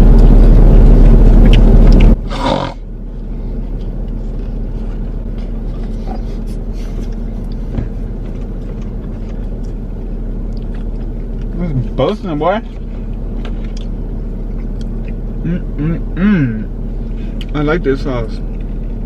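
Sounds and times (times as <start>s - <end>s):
car interior engine hum: 0.0s - 19.0s.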